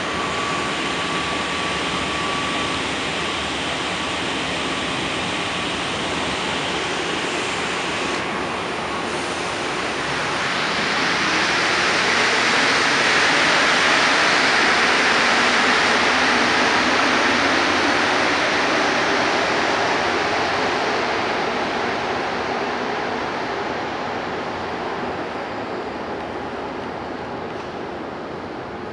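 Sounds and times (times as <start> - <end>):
metro train rushing: 0.0 - 28.9.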